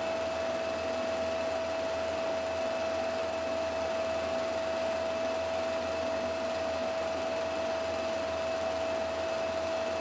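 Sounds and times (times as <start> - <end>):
film projector whirring: 0.0 - 10.0.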